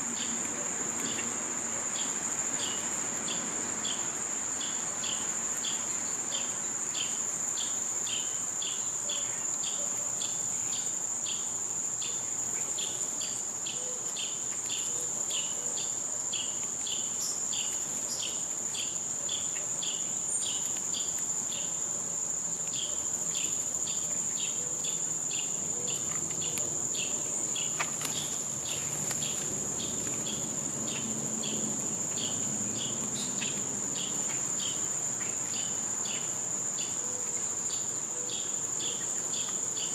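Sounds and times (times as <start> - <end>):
insects trilling: 0.0 - 39.9
rhythmic insect chirps: 0.1 - 39.9.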